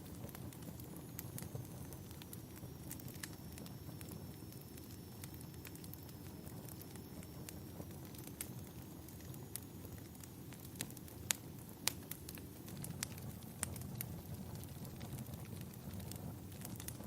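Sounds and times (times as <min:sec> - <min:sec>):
low fire rumble: 0:00.0 - 0:17.0
wood fire crackling: 0:00.0 - 0:17.0.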